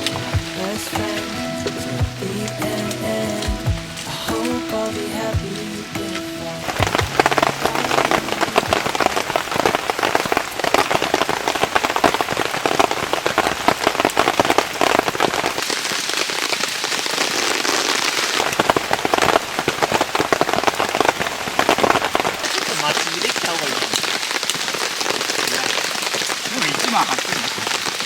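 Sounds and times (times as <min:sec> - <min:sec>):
rain pattering on a tarp: 0:00.0 - 0:28.0.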